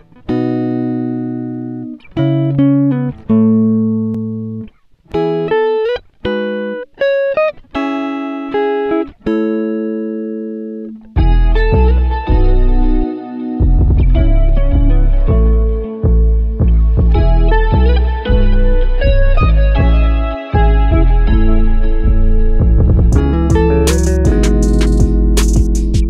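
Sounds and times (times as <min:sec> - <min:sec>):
plucked guitar chords: 0:00.0 - 0:26.0.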